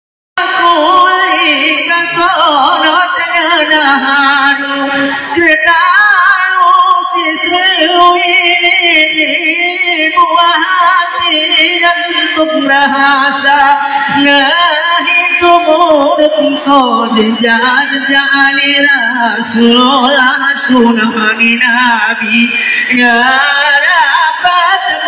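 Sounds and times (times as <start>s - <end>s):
person singing unaccompanied: 0.4s - 25.0s.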